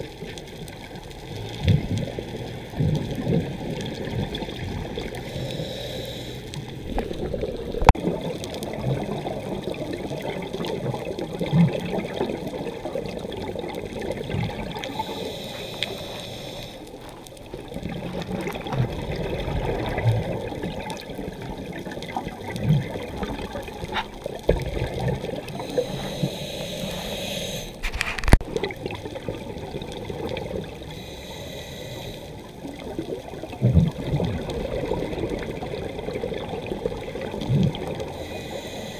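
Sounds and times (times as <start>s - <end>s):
muffled water rumble: 0.0s - 38.9s
regulator bubbles hissing underwater: 1.2s - 38.9s.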